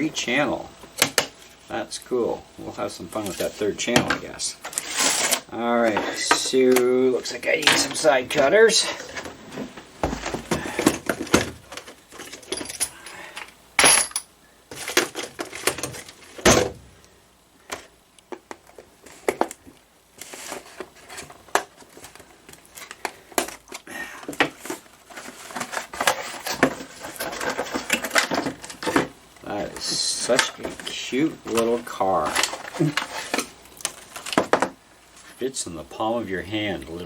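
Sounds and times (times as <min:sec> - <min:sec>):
plastic and cardboard rustling: 0:02.6 - 0:13.4, 0:14.7 - 0:17.0, 0:17.6 - 0:35.6.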